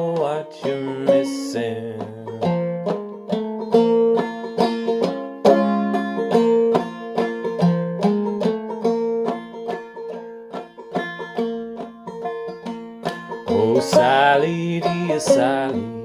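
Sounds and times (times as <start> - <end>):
banjo folk tune: 0.0 - 16.0.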